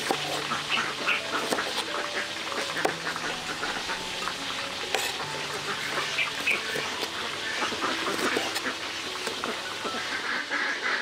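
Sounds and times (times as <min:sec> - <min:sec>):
pork sizzling in hot oil: 0:00.0 - 0:11.0.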